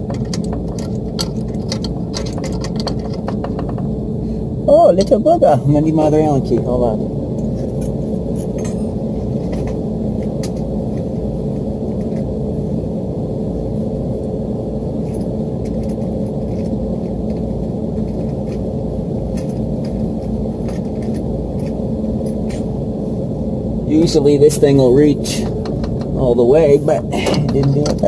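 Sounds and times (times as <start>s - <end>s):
hvac machinery drone: 0.0s - 28.0s.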